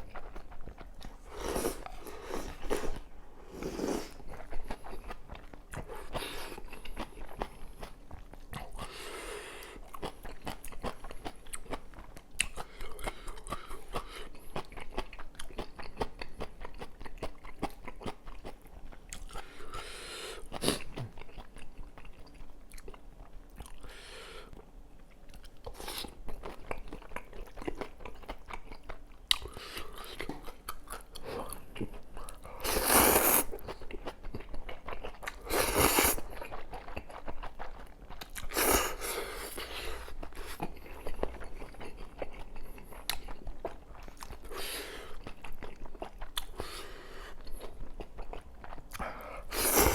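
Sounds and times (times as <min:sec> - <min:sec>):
person chewing food: 0:00.0 - 0:49.9.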